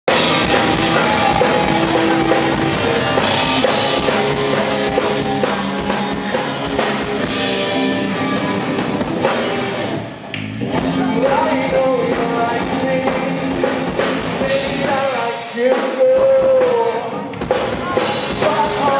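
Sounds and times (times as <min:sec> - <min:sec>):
live rock band playing: 0:00.1 - 0:18.9.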